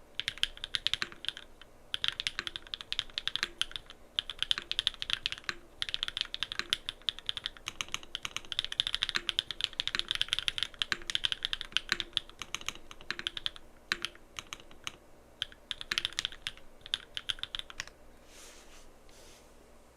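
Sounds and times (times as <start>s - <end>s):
mechanical keyboard typing: 0.2s - 18.0s.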